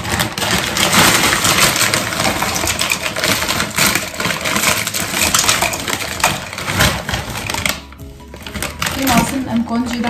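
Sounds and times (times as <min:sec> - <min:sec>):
frozen berries rattling into glass jug: 0:00.0 - 0:10.0
plastic bag crinkling: 0:00.0 - 0:10.0.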